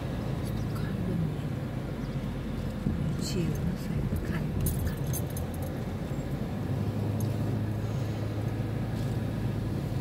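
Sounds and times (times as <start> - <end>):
car engine and tyre hum: 0.0 - 10.0.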